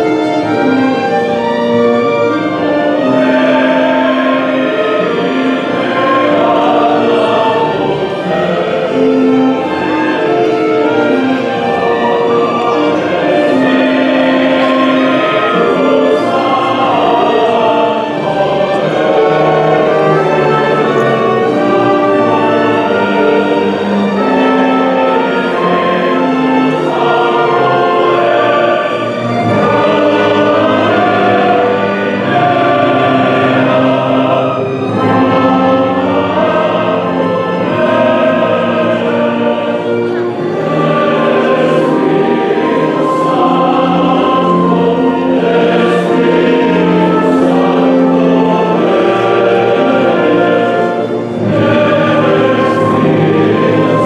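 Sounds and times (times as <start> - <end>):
choir singing with orchestra: 0.0 - 54.0.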